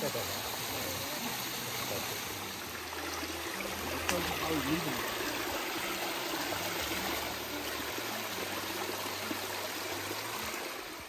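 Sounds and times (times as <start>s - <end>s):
stream water splashing over rocks: 0.0s - 11.0s.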